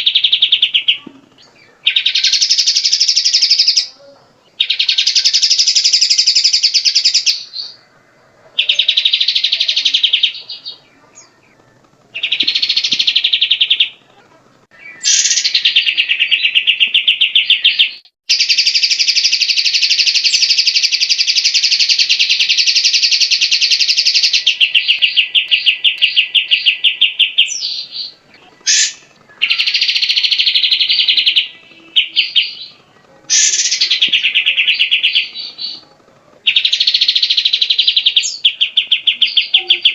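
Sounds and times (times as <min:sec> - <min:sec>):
bird singing trilled phrases: 0:00.0 - 0:39.9.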